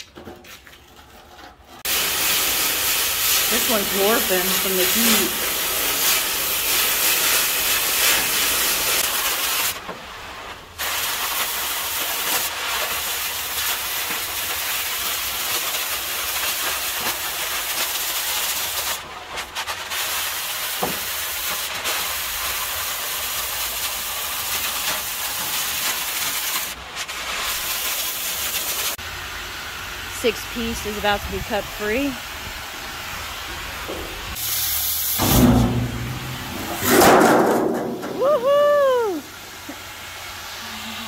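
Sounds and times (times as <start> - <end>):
cutting torch hissing: 1.8 - 41.0.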